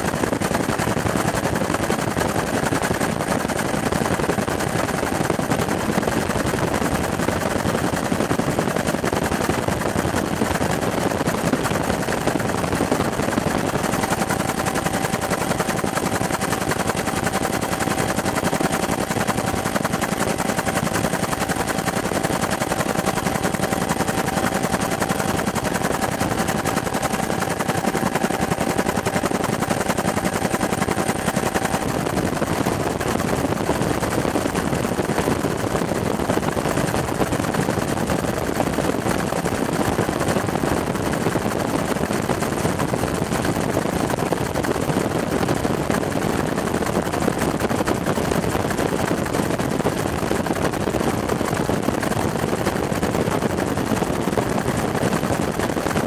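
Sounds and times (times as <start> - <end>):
engine and wind noise: 0.0 - 56.0
helicopter rotor chop: 0.0 - 56.0.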